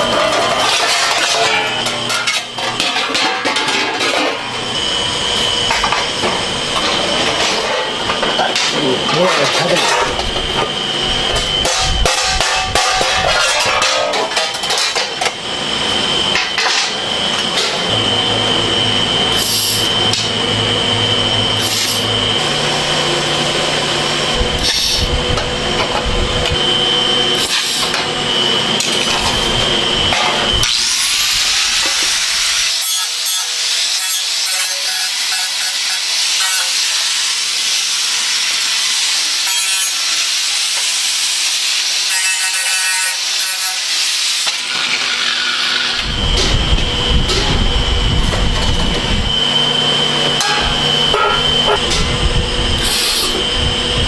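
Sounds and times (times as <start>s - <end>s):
power tool whining: 0.0s - 54.0s.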